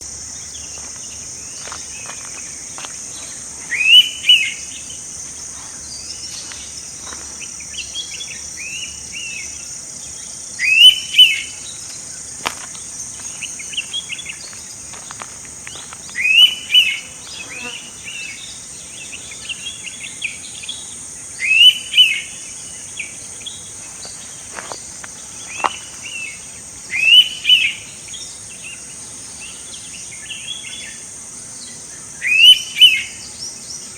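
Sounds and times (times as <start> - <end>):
high insect drone: 0.0 - 33.9
other birds calling: 0.0 - 33.9.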